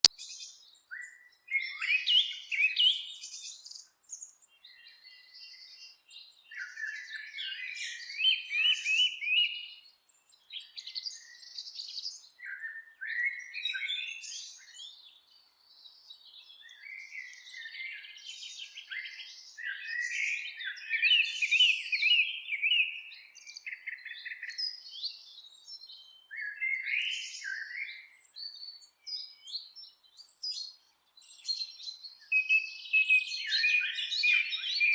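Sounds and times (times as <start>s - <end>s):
songbirds chirping and warbling: 0.0s - 34.9s.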